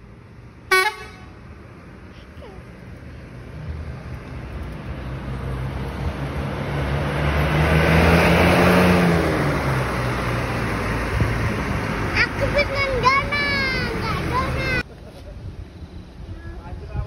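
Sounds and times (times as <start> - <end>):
coach diesel engine passing: 0.0 - 16.7.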